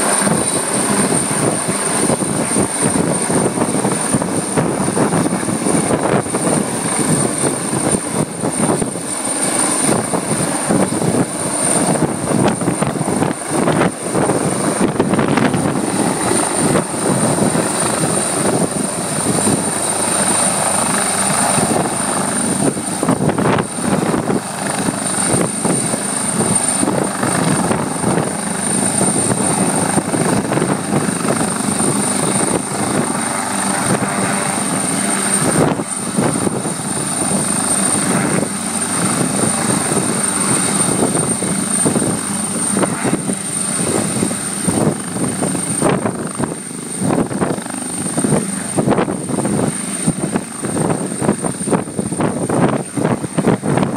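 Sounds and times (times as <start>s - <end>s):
helicopter rotor and engine: 0.0s - 53.9s
high whine: 0.0s - 53.9s.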